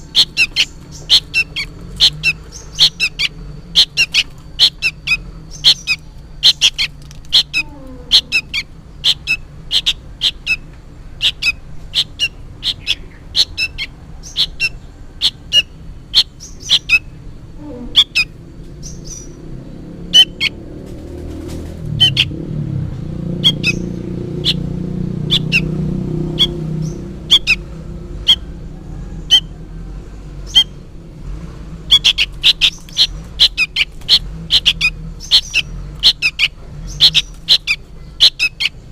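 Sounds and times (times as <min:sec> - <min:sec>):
bird begging calls: 0:00.0 - 0:20.7, 0:21.8 - 0:22.4, 0:23.2 - 0:29.6, 0:30.4 - 0:30.9, 0:31.8 - 0:38.9.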